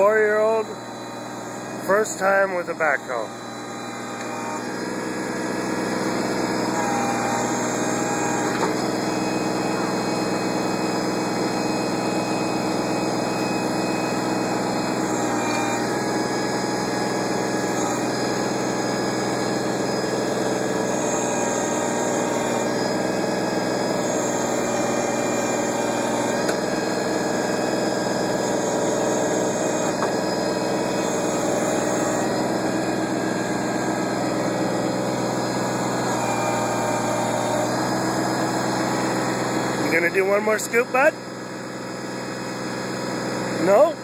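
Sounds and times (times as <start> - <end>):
higher machine tones: 0.0 - 41.1
backhoe engine running: 0.0 - 44.0.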